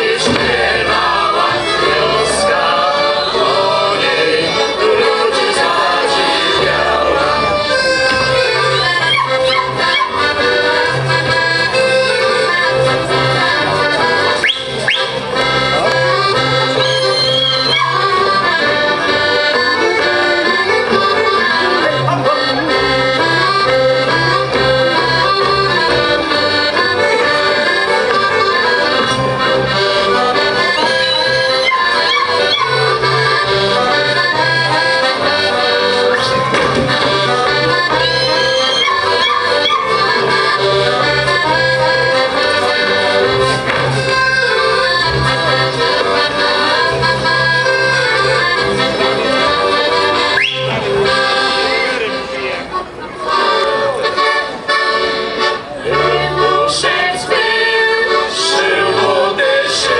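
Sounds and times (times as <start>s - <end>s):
low bass notes: 0.0s - 56.7s
accordion: 0.0s - 59.9s
violins: 0.0s - 59.9s.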